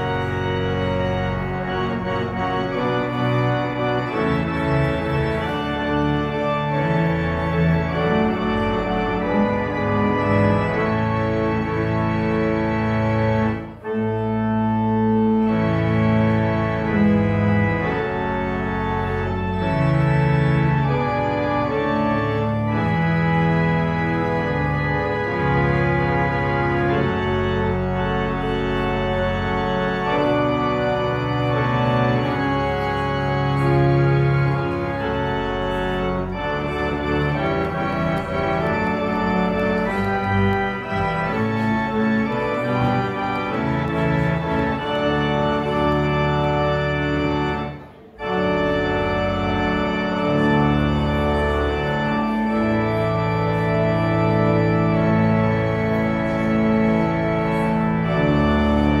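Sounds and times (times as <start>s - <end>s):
organ playing held chords: 0.0s - 59.0s.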